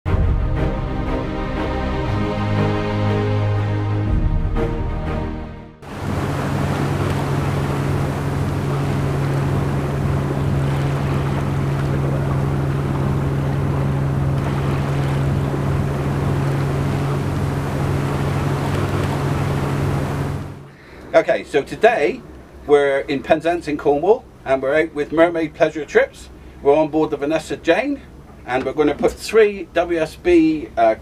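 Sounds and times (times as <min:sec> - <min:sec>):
boat engine droning: 0:00.1 - 0:31.0
water rushing past hull: 0:00.1 - 0:31.0.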